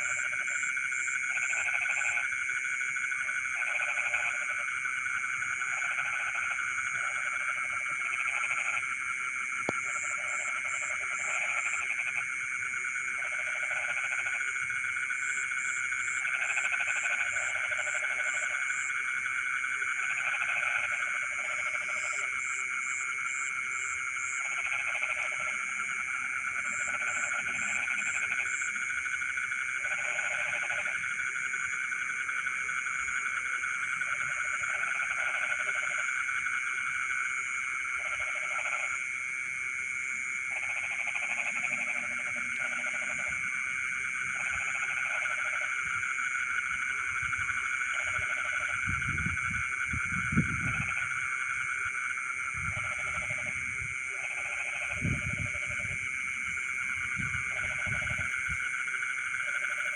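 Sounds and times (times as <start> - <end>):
high-pitched frog trilling: 0.0 - 39.0, 40.5 - 59.9
frogs croaking: 0.0 - 59.9.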